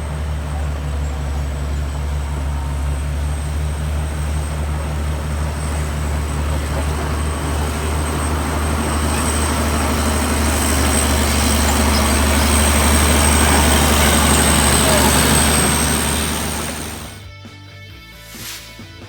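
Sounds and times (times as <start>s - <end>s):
bulldozer diesel engine running: 0.0s - 17.2s
faint high whine: 0.0s - 17.2s.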